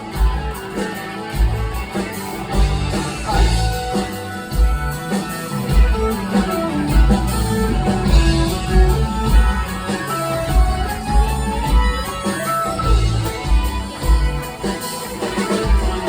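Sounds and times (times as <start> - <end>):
electric guitar: 0.0 - 16.0
live rock band playing: 0.0 - 16.0.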